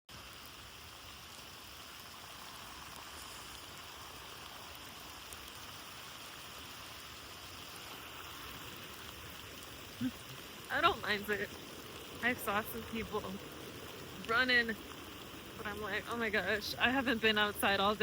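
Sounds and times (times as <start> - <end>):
snowstorm hiss: 0.1 - 18.0
snow hissing against microphone: 0.2 - 18.0.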